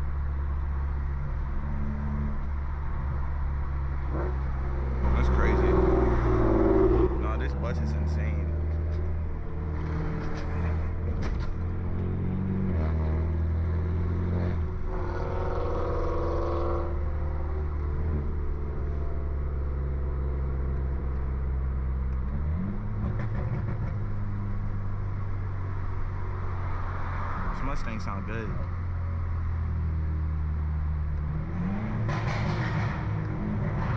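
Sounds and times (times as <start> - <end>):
car engine and exhaust droning: 0.0 - 33.9.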